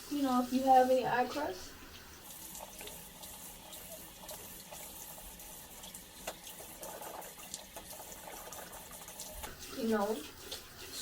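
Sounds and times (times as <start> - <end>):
sink tap running: 0.0 - 11.0
water splashing: 0.2 - 11.0.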